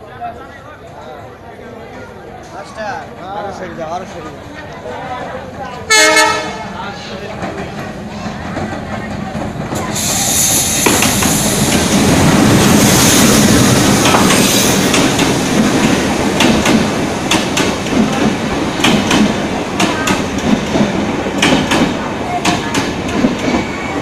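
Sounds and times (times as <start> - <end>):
diesel locomotive passing: 2.2 - 24.0.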